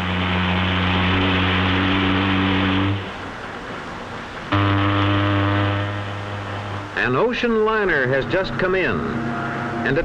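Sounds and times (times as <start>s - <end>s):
boat engine drone: 0.0s - 10.0s.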